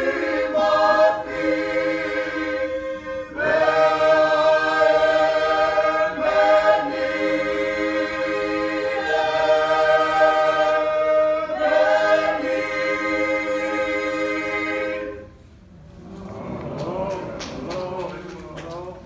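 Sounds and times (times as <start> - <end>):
choir singing a cappella: 0.0 - 18.4.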